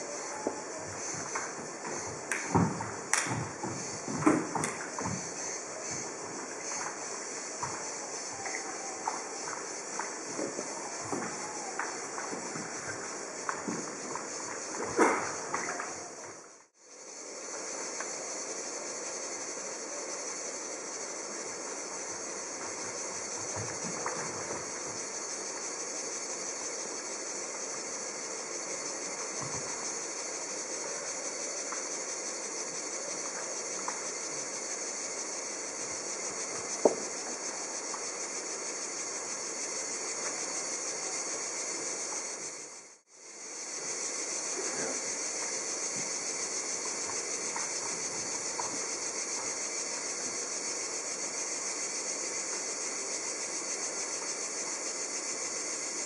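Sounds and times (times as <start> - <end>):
steady background hiss: 0.0 - 56.0.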